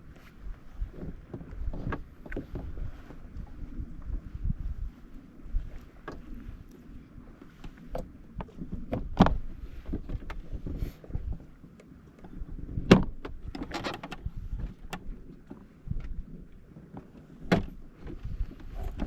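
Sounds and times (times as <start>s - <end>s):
jet ski engine rumble: 0.0s - 19.0s
wind on microphone: 0.0s - 19.0s.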